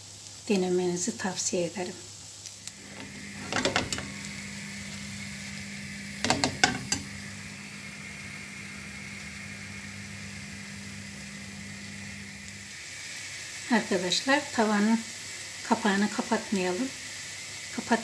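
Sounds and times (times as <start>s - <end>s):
fritter sizzling in frying pan: 0.0s - 18.0s.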